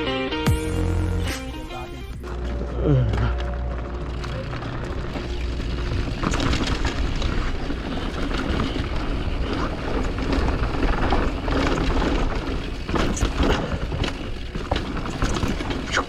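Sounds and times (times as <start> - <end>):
bike rattling and clattering: 2.2 - 16.0
bike tyre noise: 2.2 - 16.0.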